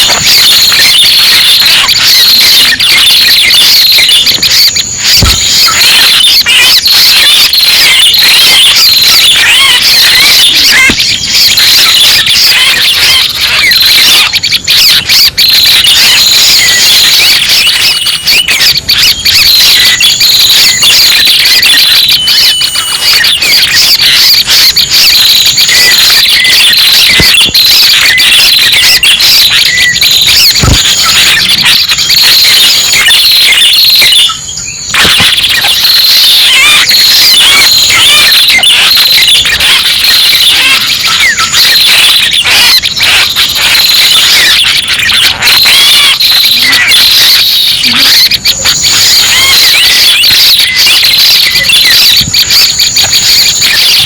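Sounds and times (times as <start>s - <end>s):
rapid high-pitched bird chirping: 0.0s - 54.0s.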